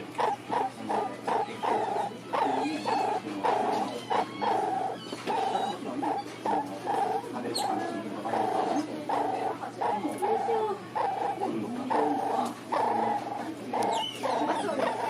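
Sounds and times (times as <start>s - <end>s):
pet animal repeated short calls: 0.0s - 15.0s.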